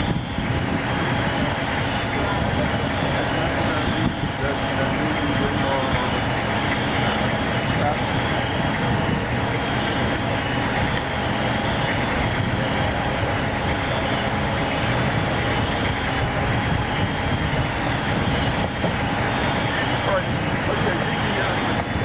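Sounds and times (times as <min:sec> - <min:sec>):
diesel engines and pumps droning: 0:00.0 - 0:22.0.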